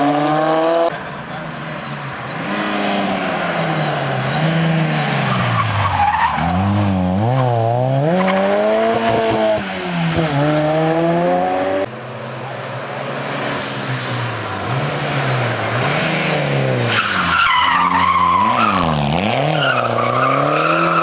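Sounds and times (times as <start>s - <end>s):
rally car engine accelerating: 1.8s - 11.9s, 13.4s - 21.0s.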